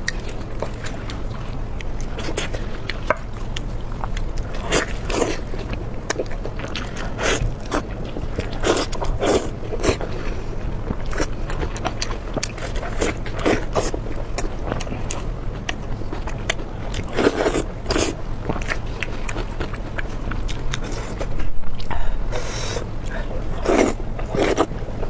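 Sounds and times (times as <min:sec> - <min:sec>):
person chewing food: 0:00.0 - 0:25.0
steady low hum: 0:00.0 - 0:25.0.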